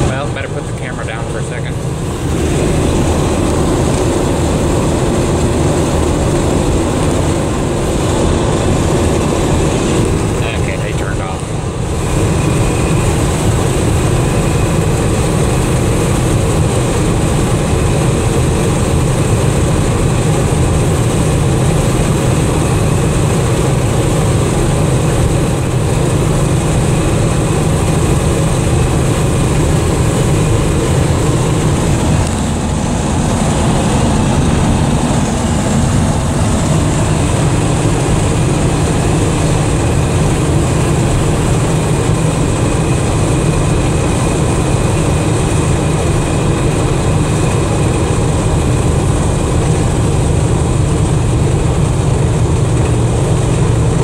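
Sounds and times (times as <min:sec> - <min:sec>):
road and wind noise: 0:00.0 - 0:54.0
truck engine running: 0:00.0 - 0:54.0.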